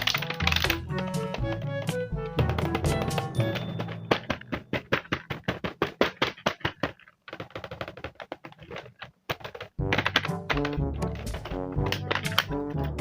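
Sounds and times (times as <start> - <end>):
plastic toys clicking and tapping: 0.0 - 13.0.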